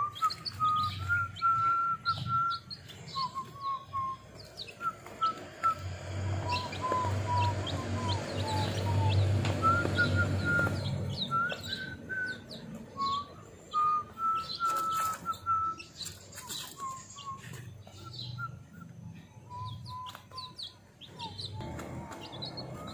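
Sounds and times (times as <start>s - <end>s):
chicks peeping: 0.0s - 22.9s
chicks pecking at feed: 0.1s - 18.3s, 19.5s - 22.9s.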